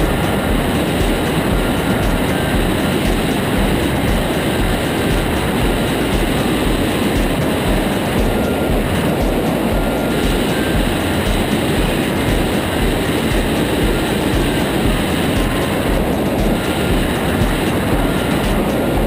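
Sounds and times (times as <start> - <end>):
aircraft engine and propeller: 0.0 - 19.0
low buffeting thumps: 0.0 - 19.0
wind rush over microphone: 0.0 - 19.0.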